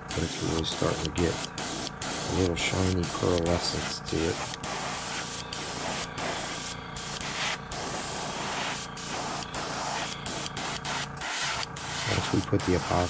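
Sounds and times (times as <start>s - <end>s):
airbrush hissing: 0.0s - 13.0s.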